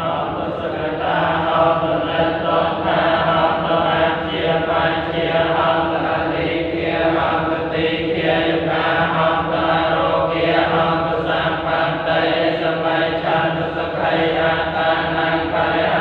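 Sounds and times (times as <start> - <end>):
group of voices chanting: 0.0 - 16.0.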